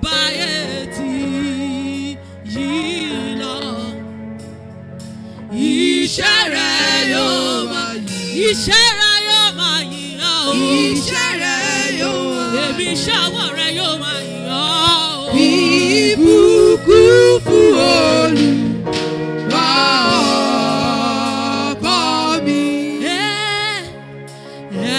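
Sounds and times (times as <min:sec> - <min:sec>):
person singing with vibrato: 0:00.0 - 0:04.6, 0:05.5 - 0:24.9
sustained instrumental chords: 0:00.0 - 0:24.9.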